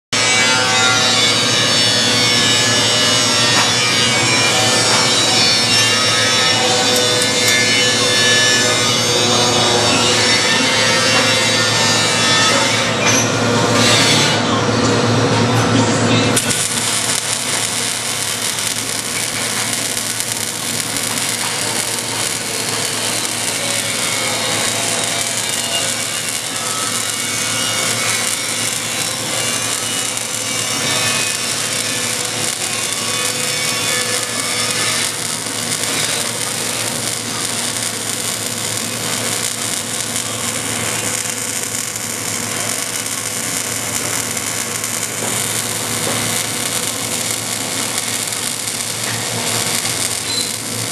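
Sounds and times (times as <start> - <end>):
welding arc crackling sizzle: 0.2 - 50.9.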